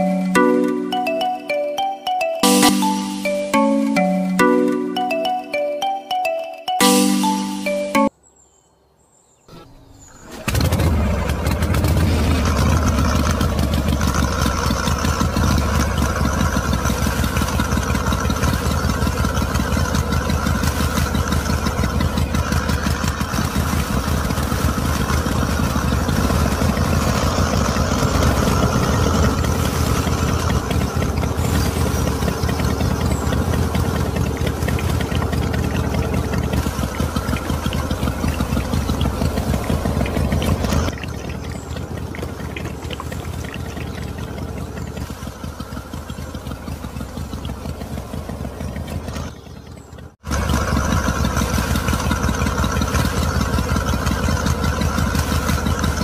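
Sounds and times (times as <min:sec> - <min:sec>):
diesel engine running: 0:09.6 - 0:56.0.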